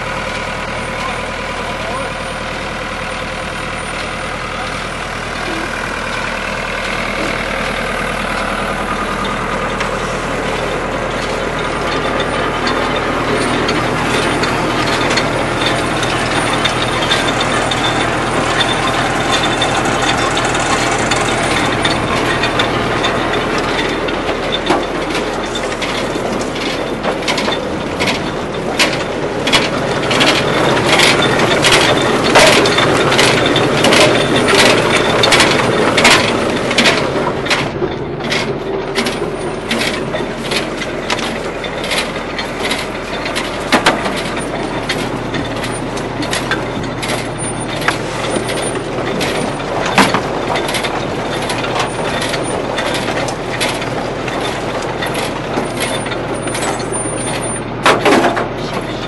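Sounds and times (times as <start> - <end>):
tractor diesel engine running: 0.0 - 59.0
rattle of harvester chain webs: 1.8 - 59.0.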